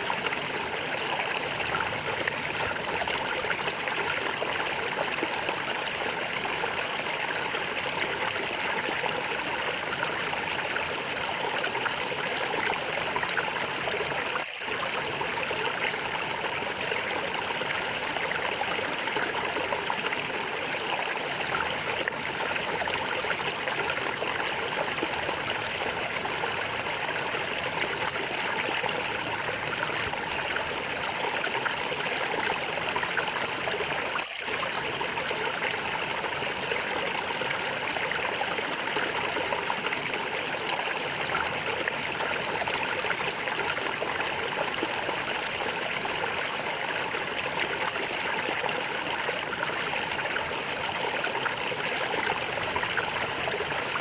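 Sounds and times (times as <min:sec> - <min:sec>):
water gurgling: 0:00.0 - 0:54.0.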